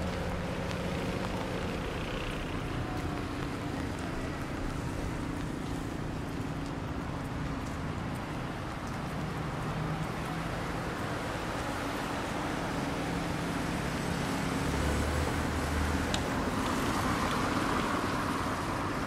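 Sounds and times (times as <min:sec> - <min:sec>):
rain: 0:00.0 - 0:19.0
tyres hissing on wet road: 0:00.0 - 0:19.0
vehicle engines humming: 0:00.0 - 0:19.0.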